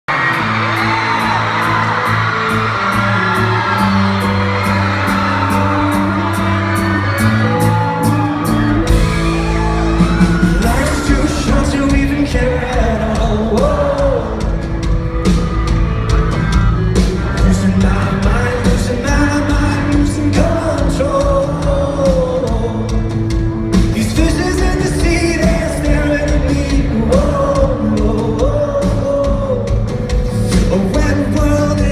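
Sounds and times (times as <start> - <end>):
drums: 0.1 - 31.9
rock band playing: 0.1 - 31.9
person singing: 0.3 - 14.9, 17.0 - 31.9.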